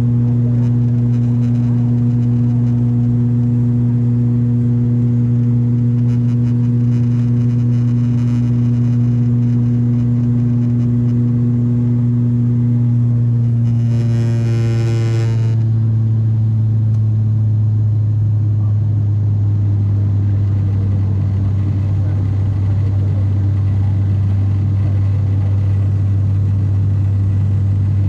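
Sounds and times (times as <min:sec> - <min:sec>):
turboprop engines droning: 0:00.0 - 0:28.0.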